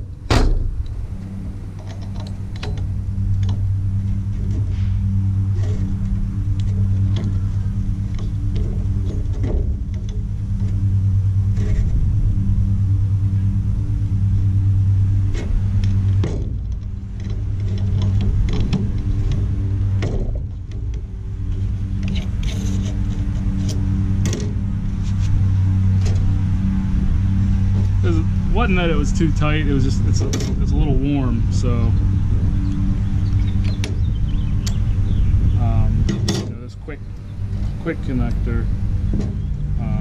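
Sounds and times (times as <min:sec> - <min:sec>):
low engine-like hum: 0:00.0 - 0:40.0.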